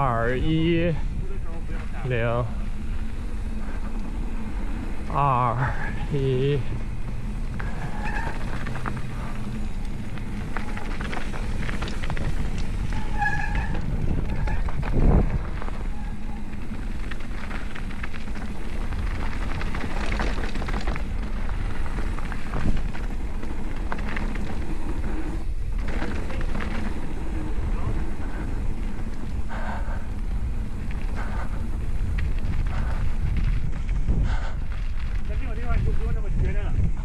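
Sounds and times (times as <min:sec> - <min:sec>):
bike rattling: 0:00.0 - 0:37.0
bike tyres rumbling on dirt: 0:00.0 - 0:37.0.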